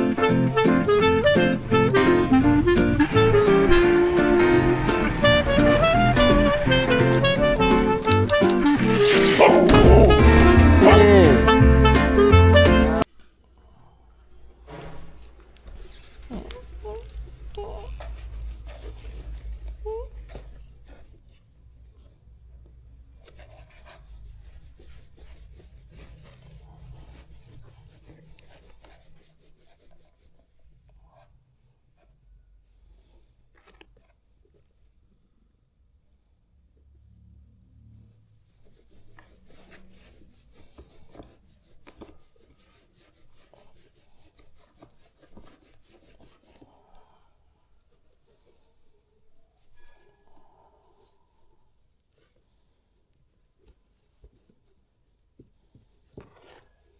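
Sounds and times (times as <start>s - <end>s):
soft scratching and rubbing: 0.0s - 11.2s, 13.0s - 35.4s, 37.9s - 56.9s.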